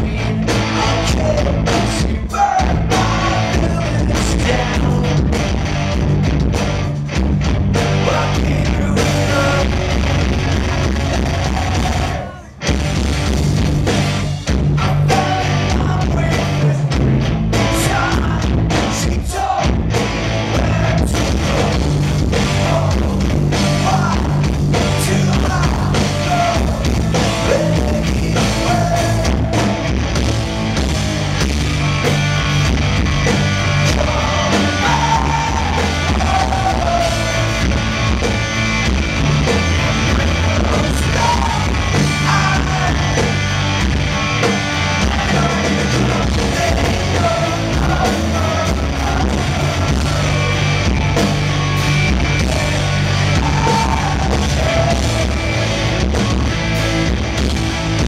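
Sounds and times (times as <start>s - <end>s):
male lead singer: 0.0s - 6.5s, 7.4s - 13.0s, 13.8s - 58.0s
live rock band playing: 0.0s - 58.0s.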